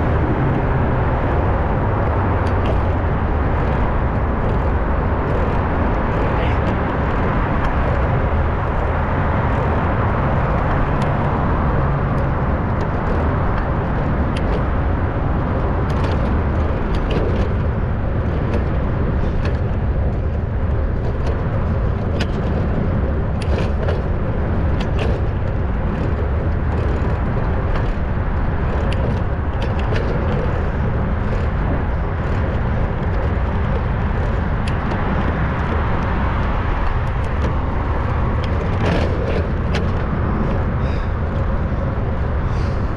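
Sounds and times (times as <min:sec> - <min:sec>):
bicycle clicks and rattles: 0:00.0 - 0:42.9
wind and road noise: 0:00.0 - 0:42.9.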